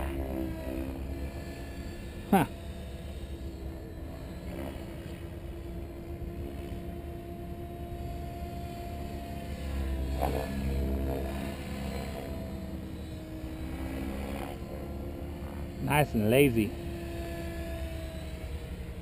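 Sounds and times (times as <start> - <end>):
rc helicopter rotor hum: 0.0 - 19.0.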